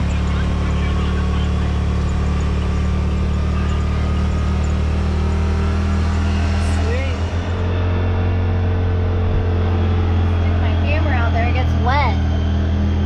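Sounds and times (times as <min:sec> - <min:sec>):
utility vehicle engine humming: 0:00.0 - 0:13.0.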